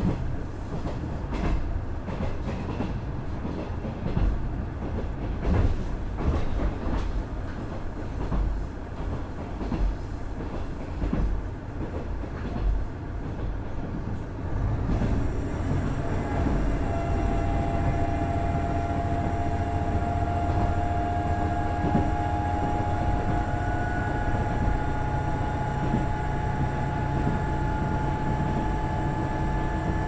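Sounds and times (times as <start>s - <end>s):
railcar engine rumble: 0.0s - 30.0s.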